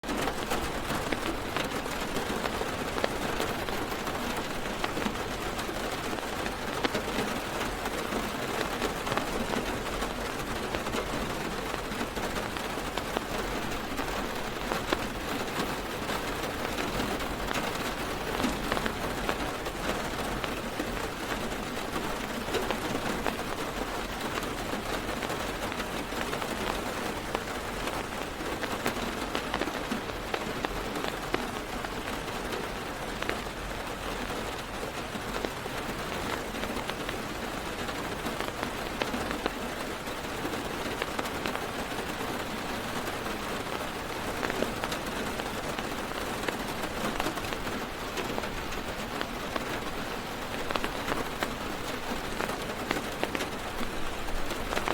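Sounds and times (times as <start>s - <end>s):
heavy rain on car roof: 0.0s - 54.9s.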